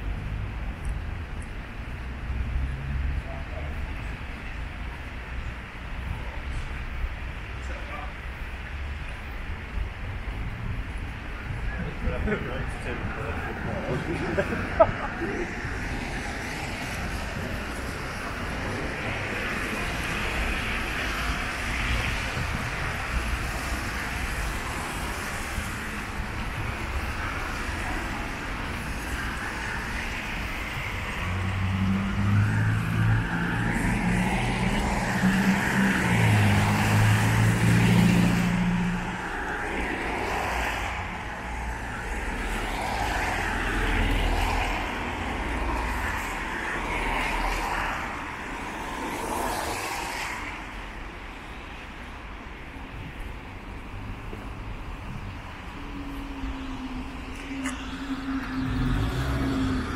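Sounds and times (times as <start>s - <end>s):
steady hum of cars: 0.0s - 59.9s.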